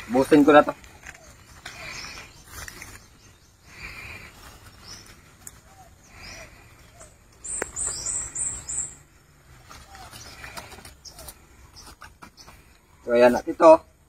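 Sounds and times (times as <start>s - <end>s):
small bird chirping: 0.0s - 13.4s.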